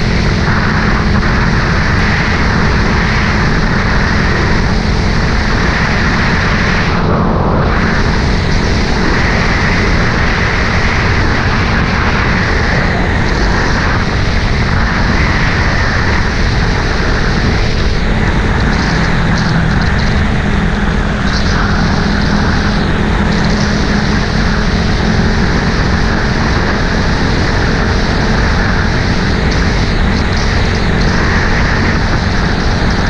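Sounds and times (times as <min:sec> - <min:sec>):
heavy rushing road noise: 0:00.0 - 0:33.0
vehicle engine hum: 0:00.0 - 0:33.0.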